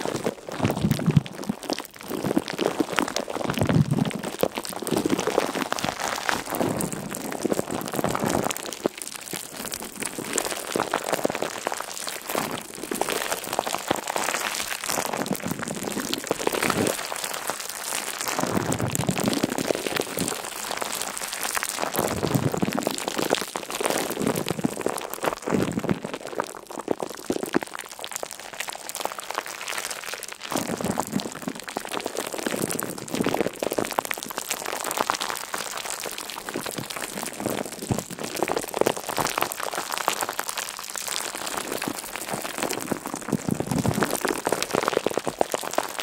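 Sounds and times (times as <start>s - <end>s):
dense crackling and crunching: 0.0s - 46.0s.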